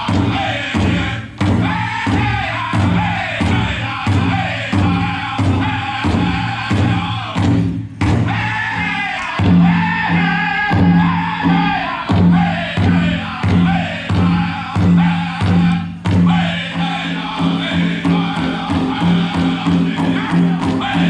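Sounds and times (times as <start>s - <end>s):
high-pitched group singing: 0.0s - 7.6s, 8.2s - 21.0s
big drum struck in steady beat: 0.0s - 21.0s.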